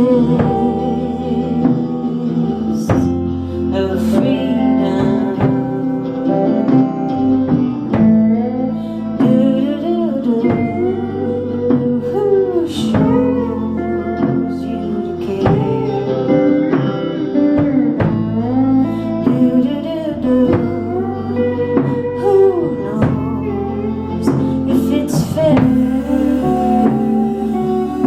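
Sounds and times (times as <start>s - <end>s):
person singing: 0.0s - 28.0s
rock band playing: 0.0s - 28.0s.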